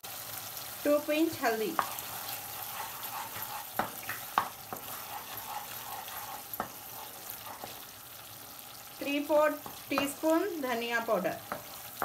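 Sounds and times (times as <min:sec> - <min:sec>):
sauce sizzling in a pan: 0:00.0 - 0:12.0
wooden spatula scraping a pan: 0:01.4 - 0:12.0.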